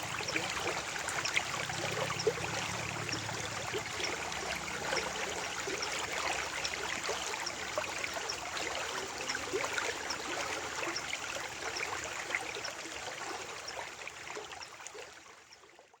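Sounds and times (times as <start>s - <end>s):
stream water babbling: 0.0s - 16.0s.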